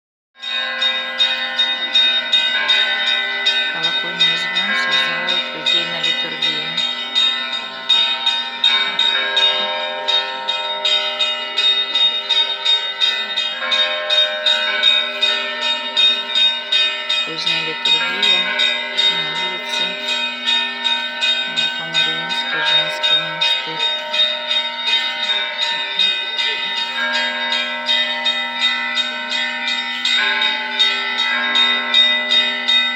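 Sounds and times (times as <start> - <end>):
large bells ringing: 0.4 - 32.9.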